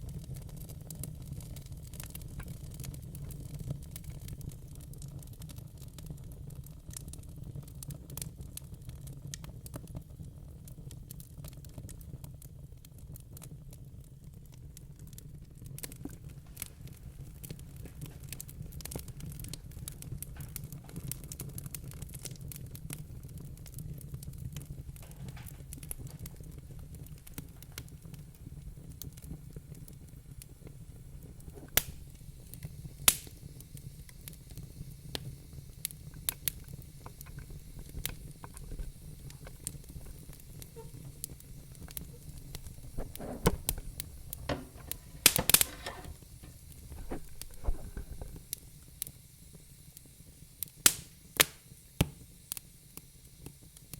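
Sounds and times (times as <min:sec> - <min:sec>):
loud pops of burning wood: 0:00.0 - 0:53.9
wood fire crackling: 0:00.0 - 0:53.9.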